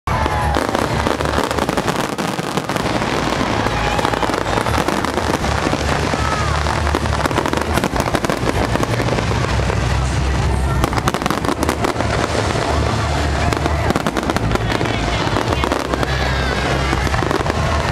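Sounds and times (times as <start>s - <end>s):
fireworks crackling: 0.1s - 17.9s
fireworks whistling: 0.1s - 17.9s
low rumble: 0.1s - 17.9s.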